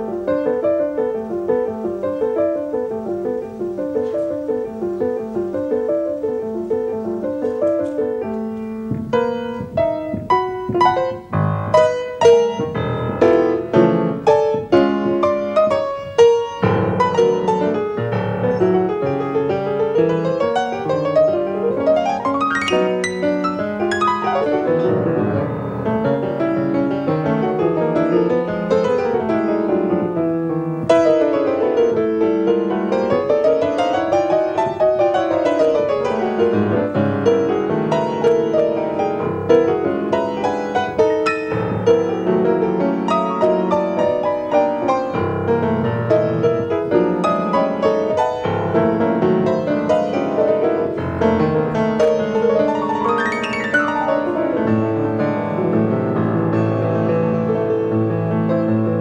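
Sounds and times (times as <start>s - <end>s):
solo jazz piano: 0.0s - 59.0s.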